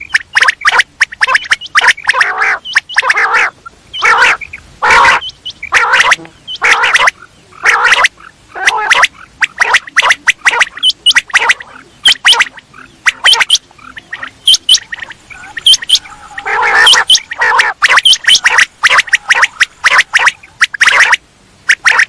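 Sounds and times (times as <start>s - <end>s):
quail calling: 0.0s - 22.0s.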